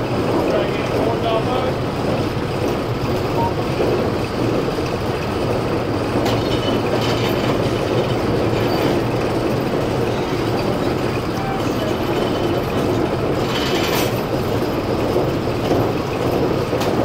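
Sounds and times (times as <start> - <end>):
sawmill machinery rumble and clatter: 0.0 - 17.0.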